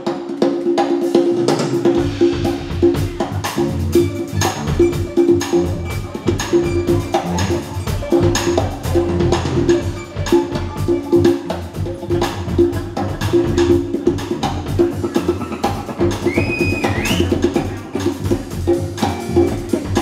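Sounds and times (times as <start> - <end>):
electric bass: 1.7 - 20.0.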